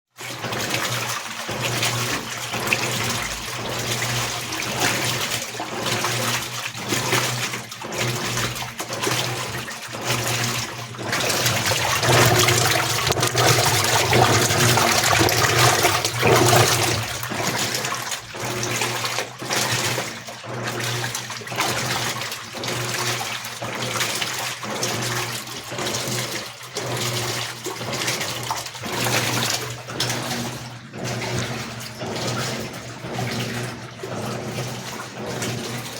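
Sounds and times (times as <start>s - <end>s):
water sloshing in washing machine: 0.1s - 35.9s
washing machine motor hum: 0.2s - 35.9s.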